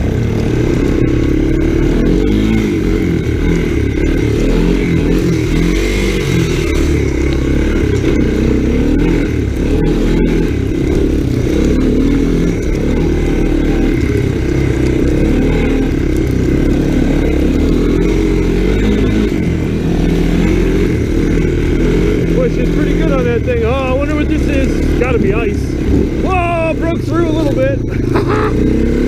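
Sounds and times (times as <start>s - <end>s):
three-wheeler engine running: 0.0s - 29.0s.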